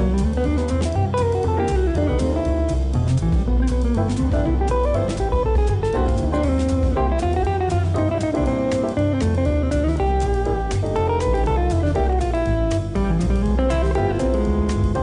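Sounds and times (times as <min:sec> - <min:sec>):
guitar-led instrumental music: 0:00.0 - 0:15.0.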